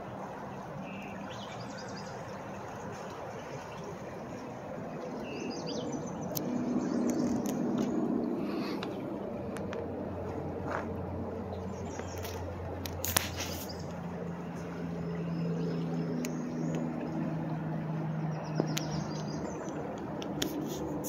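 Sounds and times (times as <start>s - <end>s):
water rippling over gravel: 0.0s - 21.0s
faint low drone: 3.9s - 21.0s.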